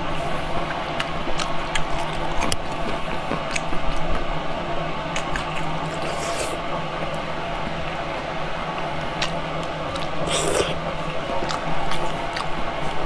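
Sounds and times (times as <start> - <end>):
steady low hum: 0.0 - 13.0
wet chewing: 0.2 - 4.3, 5.1 - 7.2, 8.8 - 13.0.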